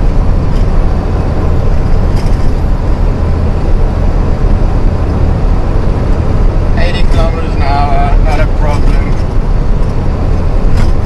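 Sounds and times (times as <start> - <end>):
diesel truck engine drone: 0.0 - 11.0
road noise: 0.0 - 11.0.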